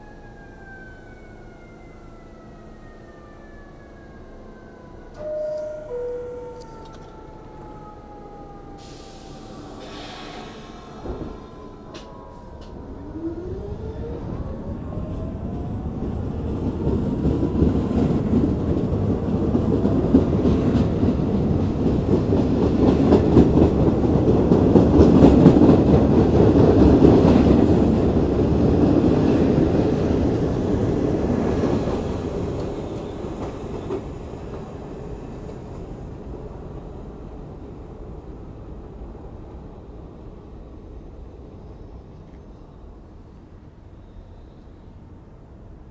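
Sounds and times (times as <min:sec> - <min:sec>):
subway train motors whining: 0:00.0 - 0:45.9.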